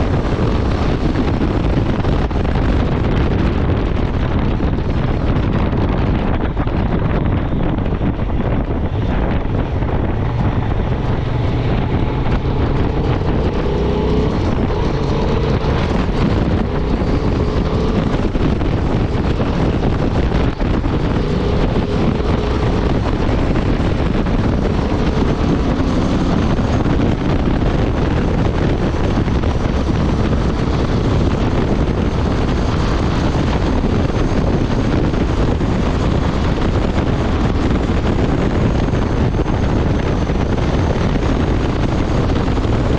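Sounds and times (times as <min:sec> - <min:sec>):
motorcycle engine at speed: 0:00.0 - 0:42.9
wind buffeting microphone: 0:00.0 - 0:42.9.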